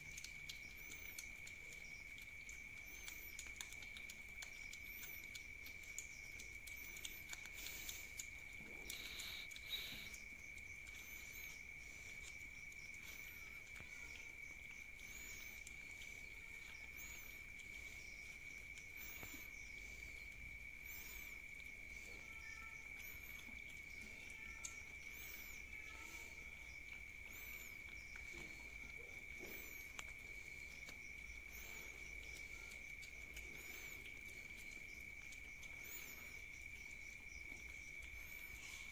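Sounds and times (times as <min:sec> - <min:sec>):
cats licking and chewing food: 0:00.0 - 0:38.9
cricket trill: 0:00.0 - 0:38.9.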